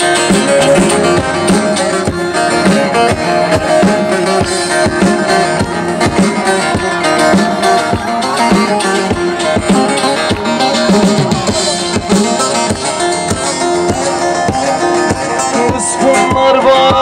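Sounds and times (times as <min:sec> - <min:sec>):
plucked string instrument melody: 0:00.0 - 0:17.0
steady drum beat: 0:00.0 - 0:17.0.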